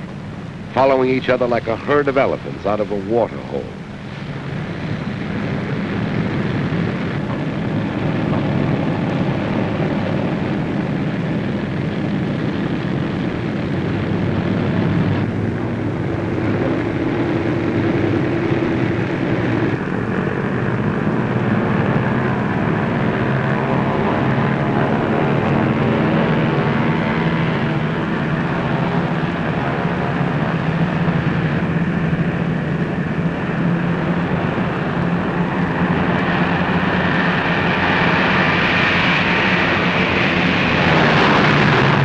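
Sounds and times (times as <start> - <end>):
radial aircraft engines droning: 0.0 - 42.0.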